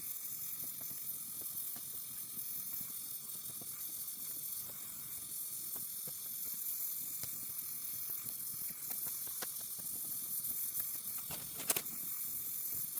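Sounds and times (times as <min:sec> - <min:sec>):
welding arc hissing: 0:00.0 - 0:12.9
faint crackles: 0:00.1 - 0:12.9.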